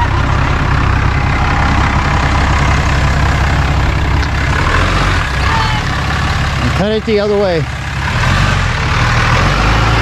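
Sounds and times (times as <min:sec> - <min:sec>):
pickup engine rumbling: 0:00.0 - 0:10.0.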